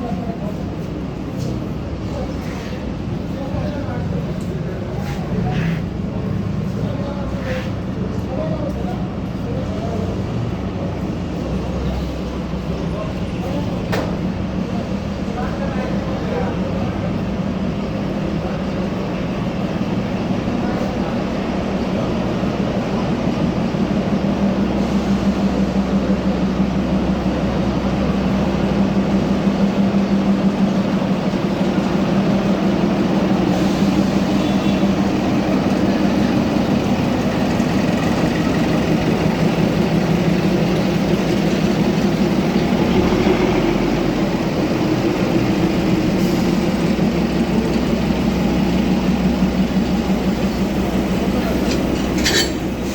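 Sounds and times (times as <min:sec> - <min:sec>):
train rumbling: 0:00.0 - 0:52.9.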